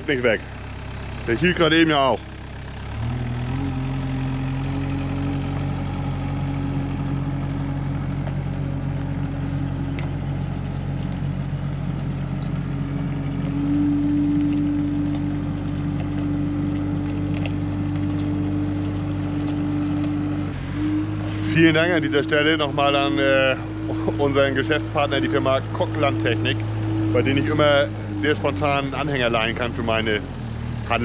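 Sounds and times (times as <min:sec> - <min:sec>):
loader engine running: 0:00.0 - 0:31.0.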